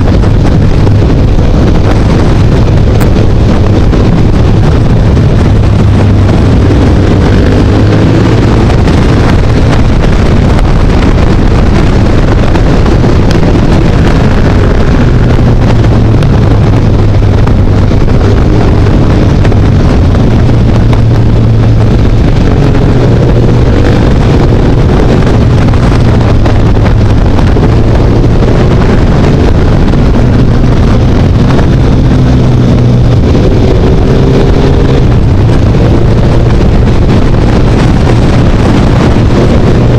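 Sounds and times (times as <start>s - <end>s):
motorcycle engine running: 0.0s - 39.9s
wind buffeting the microphone: 0.0s - 39.9s.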